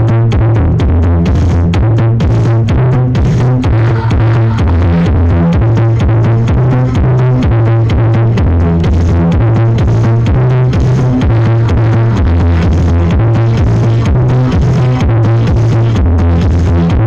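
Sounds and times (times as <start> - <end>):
loud electronic dance music: 0.0 - 17.0.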